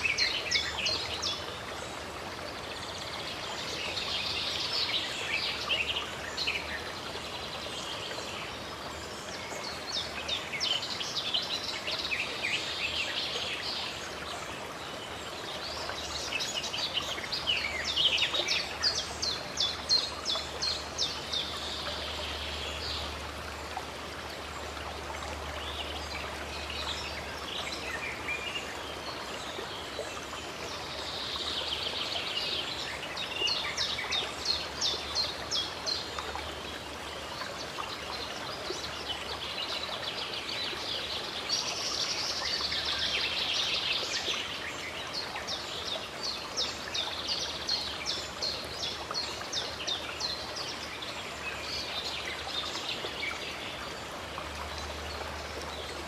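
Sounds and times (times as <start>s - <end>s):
running water: 0.0s - 56.0s
songbirds singing: 0.0s - 56.0s.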